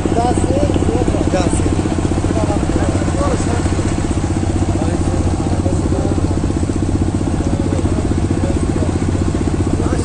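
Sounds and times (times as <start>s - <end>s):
engine running at rapid beat: 0.0s - 10.0s.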